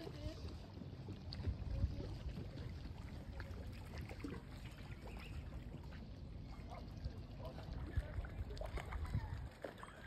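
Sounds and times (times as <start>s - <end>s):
small waves lapping: 0.0s - 10.0s.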